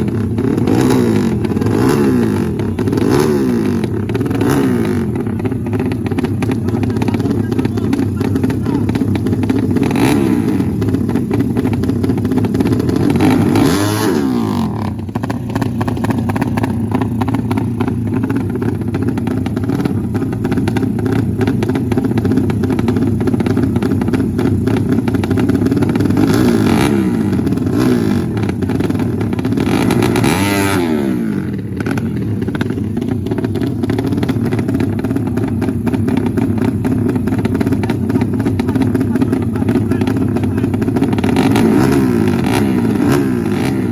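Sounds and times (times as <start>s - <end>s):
motorcycles passing by: 0.0s - 43.9s
race motorcycle engines revving: 0.0s - 43.9s.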